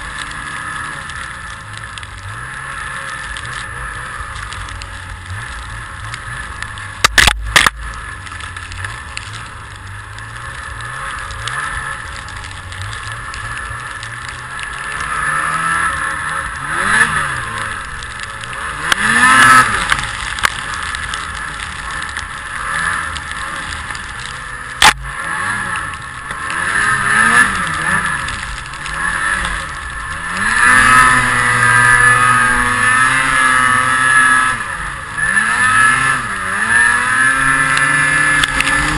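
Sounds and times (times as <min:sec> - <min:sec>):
engine revving: 0:00.0 - 0:38.9.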